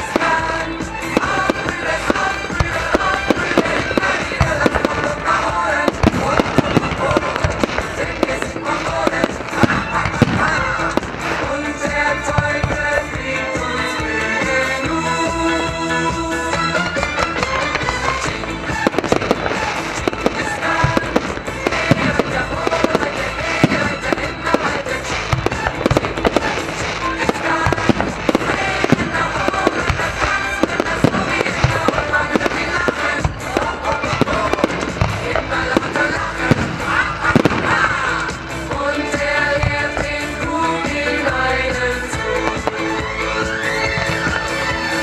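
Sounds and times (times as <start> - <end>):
fireworks bangs: 0.0 - 14.9, 15.6 - 45.0
music playing: 0.0 - 45.0.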